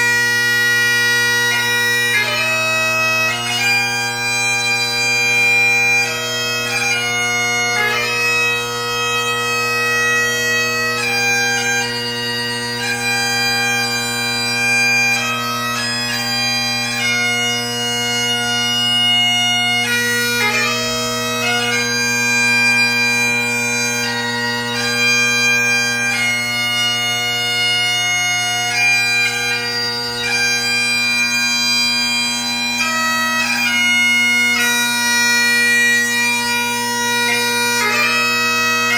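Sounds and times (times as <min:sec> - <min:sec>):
bagpipe playing: 0:00.0 - 0:38.9.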